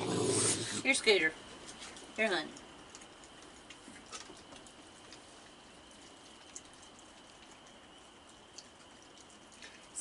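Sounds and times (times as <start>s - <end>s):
raccoons eating: 0.0s - 10.0s.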